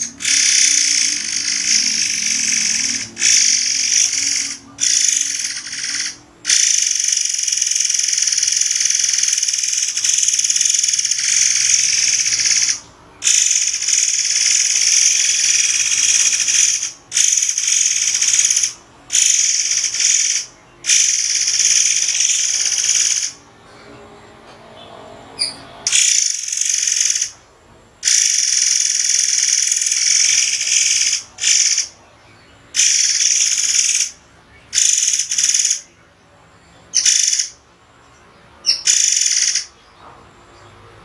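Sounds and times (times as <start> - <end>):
bird's shrill buzzing trill: 0.0 - 23.4, 25.4 - 27.4, 28.0 - 32.0, 32.7 - 35.9, 37.0 - 37.6, 38.7 - 39.7.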